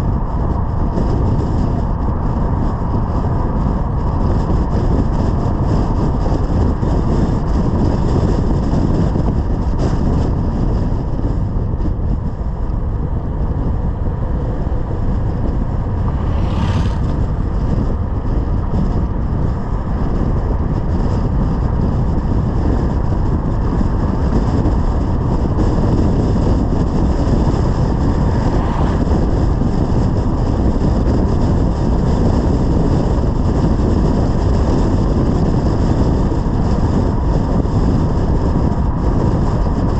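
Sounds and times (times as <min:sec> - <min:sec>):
wind and tyre noise: 0:00.0 - 0:39.9.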